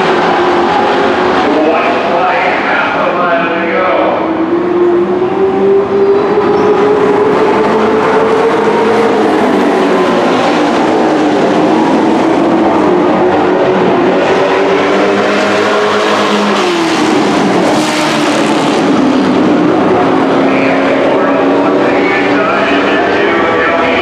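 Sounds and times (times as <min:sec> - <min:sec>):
race truck engines droning: 0:00.0 - 0:24.0.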